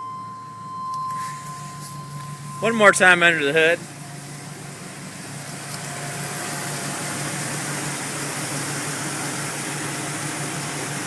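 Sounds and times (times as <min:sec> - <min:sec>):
pickup engine idling: 0:00.0 - 0:11.0
fan and engine-bay rush: 0:00.1 - 0:11.0.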